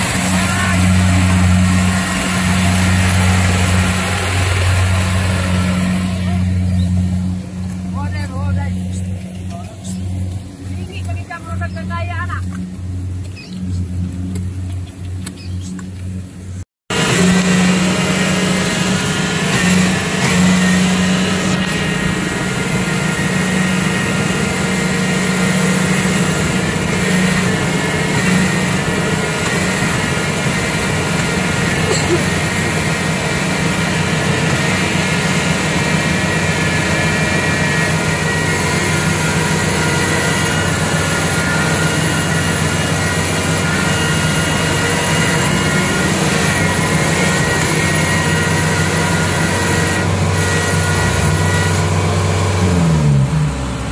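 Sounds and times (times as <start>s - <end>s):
combine harvester droning: 0.0s - 53.9s.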